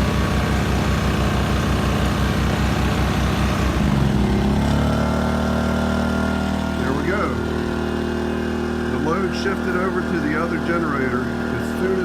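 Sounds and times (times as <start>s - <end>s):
generator engine speeding up: 0.0s - 12.0s.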